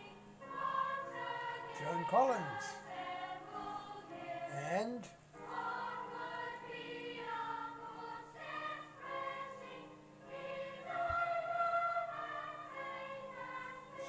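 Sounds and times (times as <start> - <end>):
choir singing a hymn: 0.0 - 14.0.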